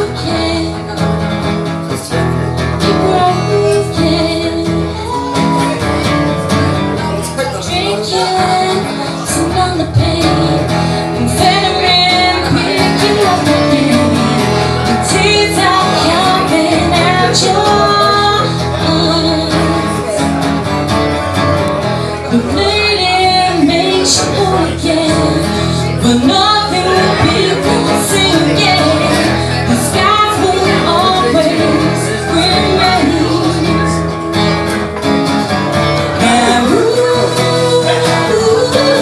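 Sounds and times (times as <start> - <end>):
woman singing into microphone: 0.0 - 1.4, 2.6 - 6.2, 7.5 - 20.5, 22.1 - 34.6, 36.0 - 39.0
acoustic guitar strummed: 0.0 - 39.0.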